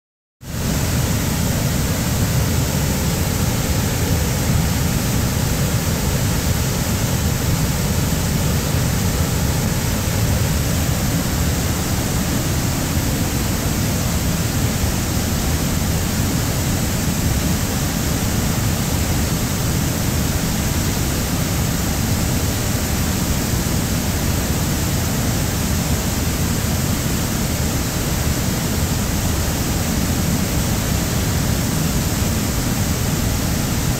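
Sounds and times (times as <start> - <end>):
water pouring over a dam spillway: 0.5 - 33.9.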